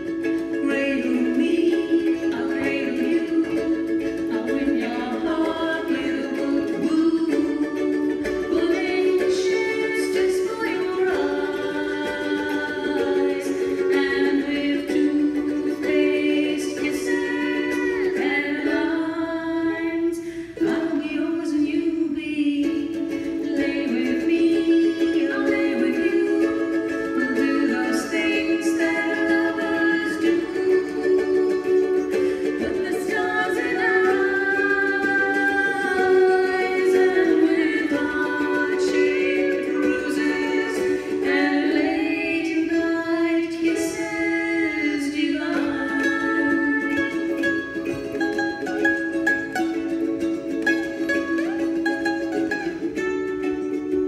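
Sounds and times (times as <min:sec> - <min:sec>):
voices singing together: 0:00.0 - 0:48.1
strummed ukuleles: 0:00.0 - 0:54.0.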